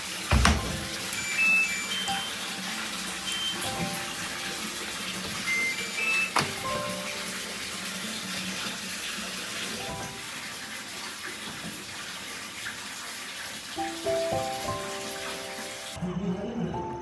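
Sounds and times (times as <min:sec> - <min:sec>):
running water hiss: 0:00.0 - 0:16.0.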